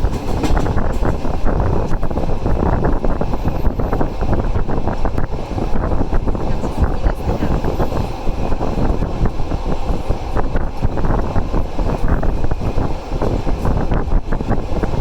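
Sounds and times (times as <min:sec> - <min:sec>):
train rumbling on rails: 0:00.0 - 0:15.0
wind buffeting microphone: 0:00.0 - 0:15.0.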